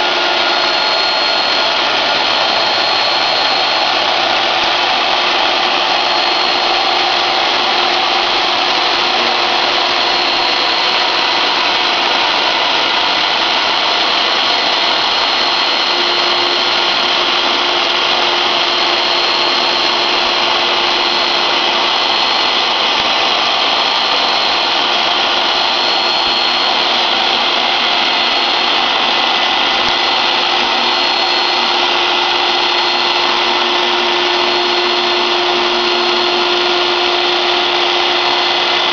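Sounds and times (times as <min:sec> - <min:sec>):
cnc router cutting with whine: 0:00.0 - 0:38.9.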